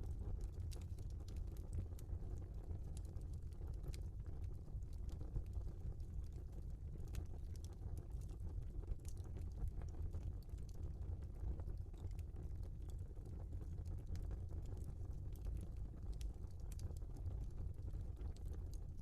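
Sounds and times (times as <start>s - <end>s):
burning logs crackling and popping: 0.0s - 19.0s.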